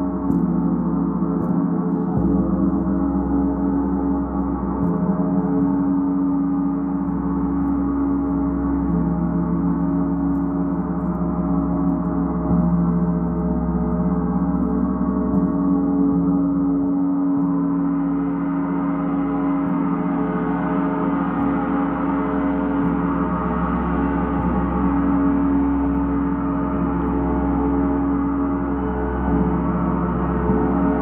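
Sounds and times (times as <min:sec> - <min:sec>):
gong sustained tones: 0:00.0 - 0:31.0.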